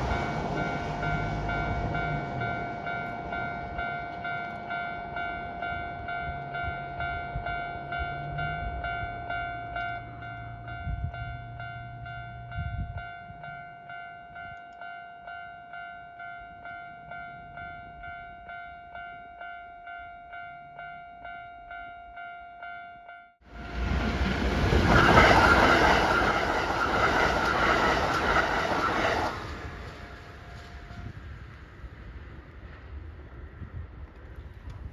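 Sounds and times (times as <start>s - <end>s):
train passing over crossing: 0.0s - 22.2s, 23.5s - 34.9s
level crossing warning bell: 0.0s - 31.2s.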